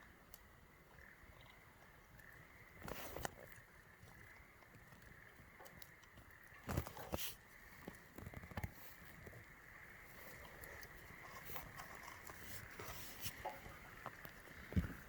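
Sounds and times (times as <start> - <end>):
campfire crackling and popping: 0.0 - 15.0
soft steady hiss: 0.0 - 15.0.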